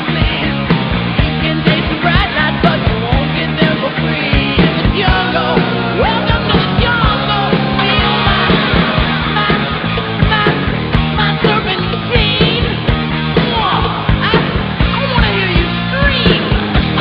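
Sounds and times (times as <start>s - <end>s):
rock music with singing: 0.0s - 17.0s
steady drum beat: 0.0s - 17.0s.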